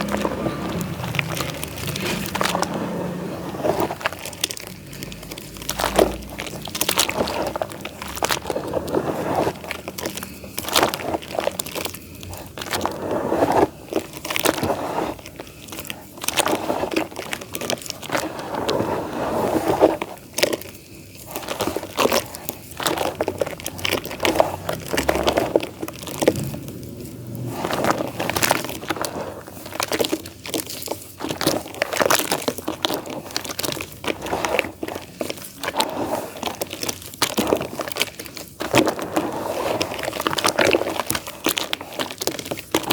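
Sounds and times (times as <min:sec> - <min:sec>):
clay dirt crumbling: 0:00.0 - 0:42.9.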